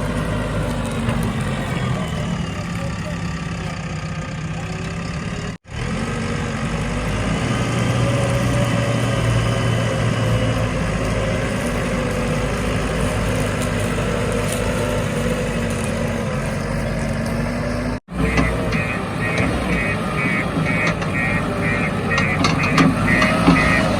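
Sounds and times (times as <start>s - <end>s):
diesel engine of heavy machinery: 0.0s - 23.9s.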